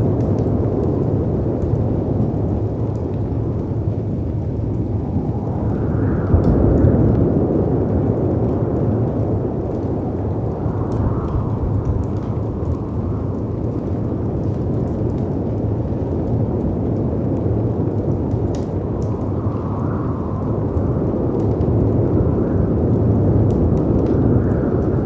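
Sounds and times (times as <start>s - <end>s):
rumbling wind: 0.0s - 25.0s
wood fire crackling: 0.0s - 25.0s.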